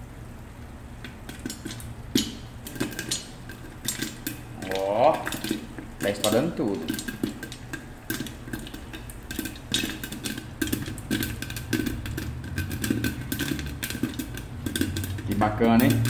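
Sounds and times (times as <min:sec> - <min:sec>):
low steady rumble: 0:00.0 - 0:16.0
popcorn popping in covered pot: 0:00.8 - 0:16.0.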